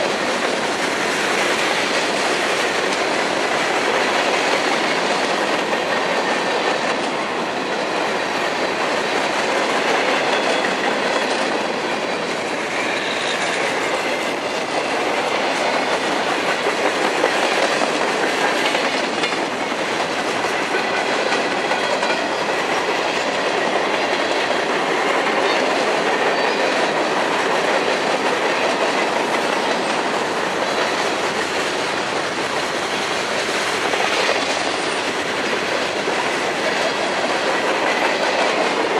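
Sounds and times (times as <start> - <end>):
train wheels clacking over rail joints: 0.0 - 38.9.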